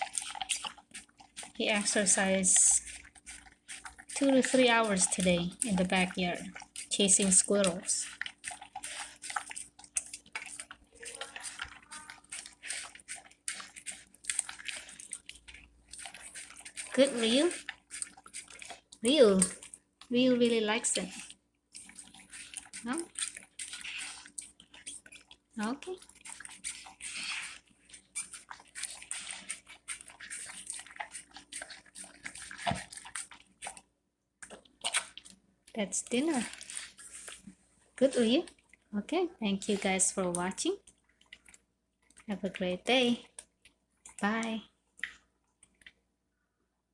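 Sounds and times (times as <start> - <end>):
dog eating wet smacking: 0.0 - 20.2, 20.8 - 35.4, 36.0 - 38.8, 39.7 - 42.3.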